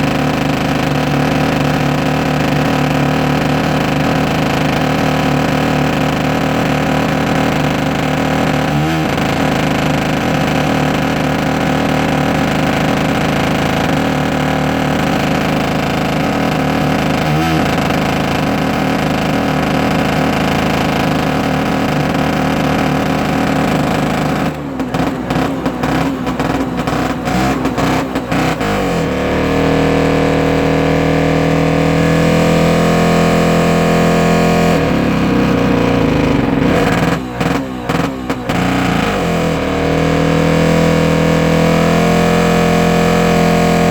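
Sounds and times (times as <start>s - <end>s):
grader engine running: 0.0s - 43.9s.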